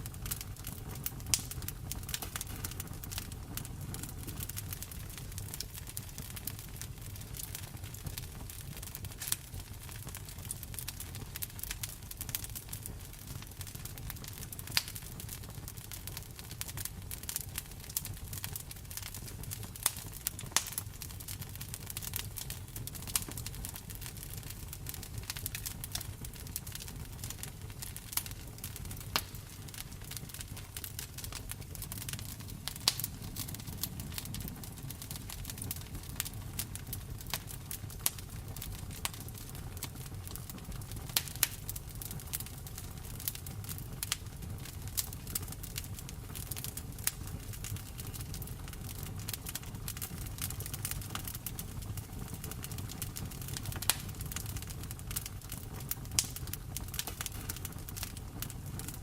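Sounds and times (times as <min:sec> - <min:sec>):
wood fire crackling: 0:00.0 - 0:59.0
sharp fire pops: 0:00.1 - 0:15.6, 0:16.2 - 0:59.0.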